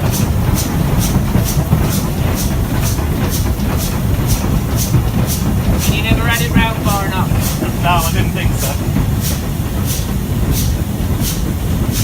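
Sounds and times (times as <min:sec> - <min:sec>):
steam locomotive exhaust beats: 0:00.0 - 0:12.0
train rumbling: 0:00.0 - 0:12.0.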